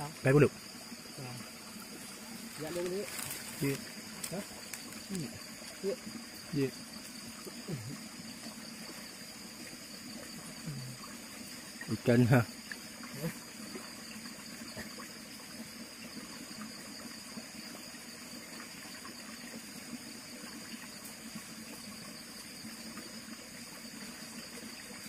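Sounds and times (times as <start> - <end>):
stream water running over rocks: 0.0 - 25.0.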